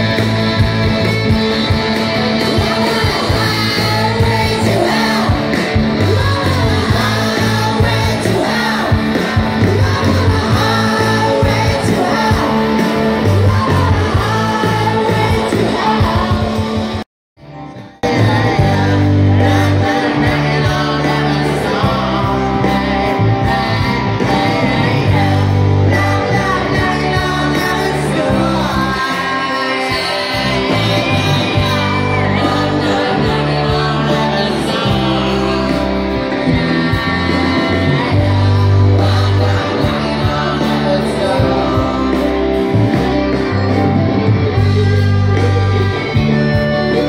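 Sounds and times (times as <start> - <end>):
person singing: 0.0 - 17.0, 17.8 - 47.0
bass line: 0.0 - 47.0
electric guitar: 0.0 - 47.0
keyboards: 0.0 - 47.0.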